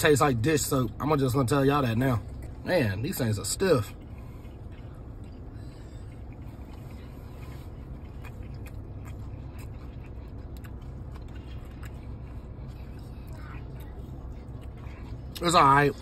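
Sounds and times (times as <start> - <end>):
car cabin hum: 0.0 - 16.0
person chewing: 1.4 - 16.0.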